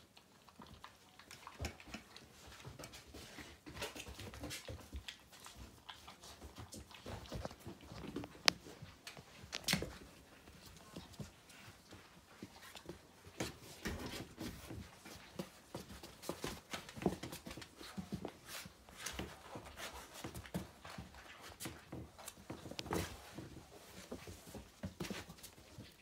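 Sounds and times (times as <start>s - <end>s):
puppy claws scrabbling on carpet: 1.5s - 26.0s.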